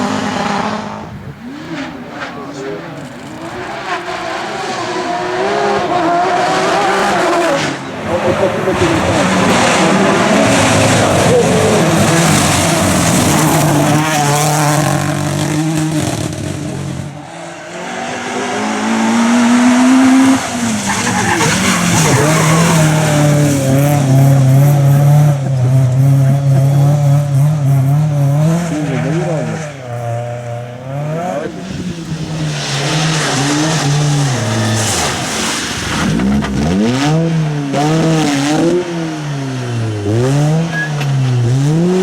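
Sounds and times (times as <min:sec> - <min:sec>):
rally car engine revving: 0:00.0 - 0:42.0
tyres skidding: 0:00.0 - 0:42.0.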